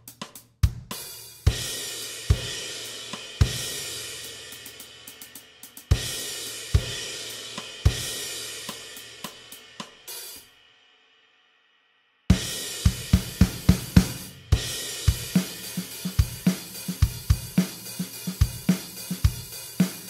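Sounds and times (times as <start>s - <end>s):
drum kit playing rock beat: 0.0s - 10.5s, 12.3s - 20.0s.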